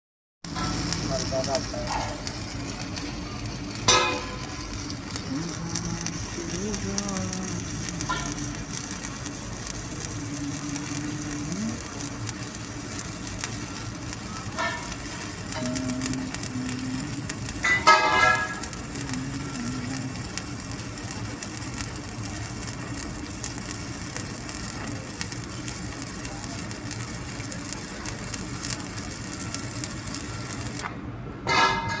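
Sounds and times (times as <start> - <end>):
welding arc crackling: 0.4 - 31.0.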